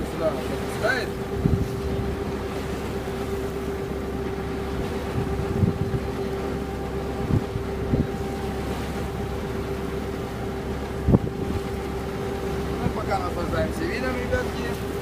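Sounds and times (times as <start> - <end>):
boat engine running: 0.0 - 15.0
dull low thumps: 1.1 - 13.7.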